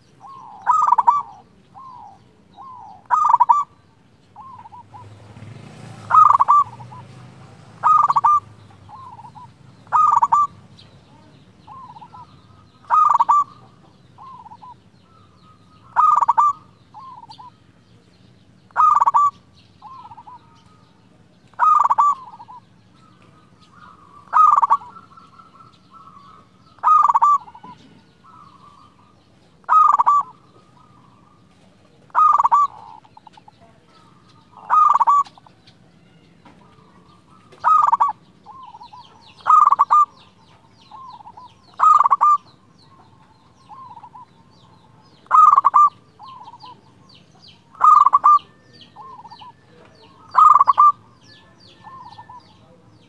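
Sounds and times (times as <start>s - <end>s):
zebra dove cooing: 0.0s - 53.0s.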